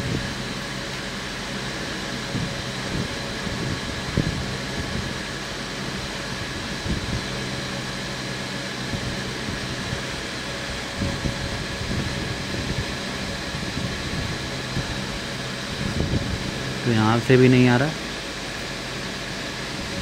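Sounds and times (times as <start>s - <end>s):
fan whirring: 0.0s - 20.0s.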